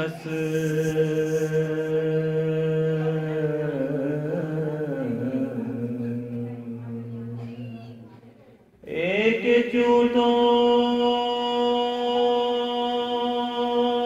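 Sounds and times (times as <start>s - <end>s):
man chanting: 0.0s - 8.2s, 8.8s - 14.0s.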